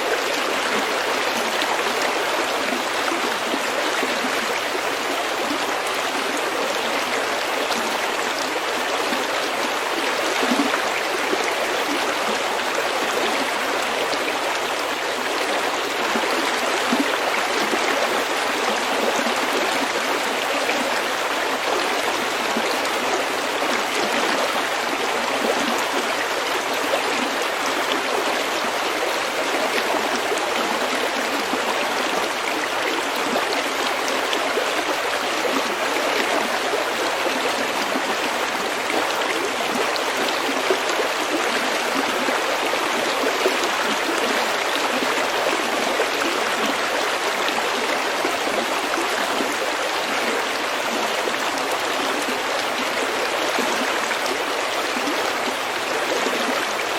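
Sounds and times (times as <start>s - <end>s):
stream babbling over pebbles: 0.0s - 56.9s.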